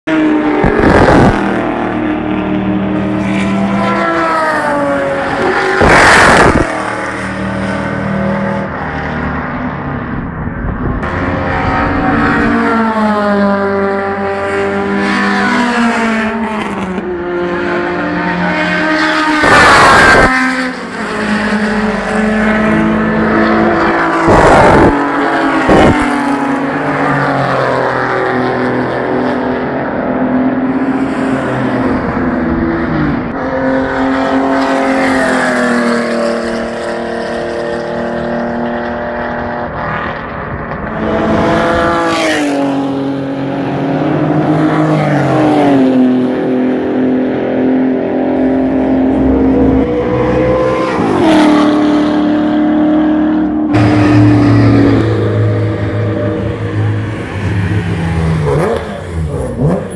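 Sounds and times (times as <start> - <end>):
race car engines revving: 0.0 - 59.9
loud rushes of noise: 0.1 - 59.9.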